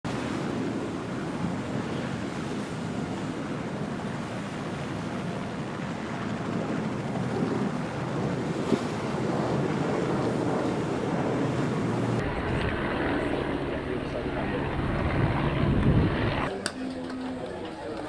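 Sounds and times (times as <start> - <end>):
rushing water and waves: 0.0 - 16.5
wind buffeting microphone: 0.1 - 16.5.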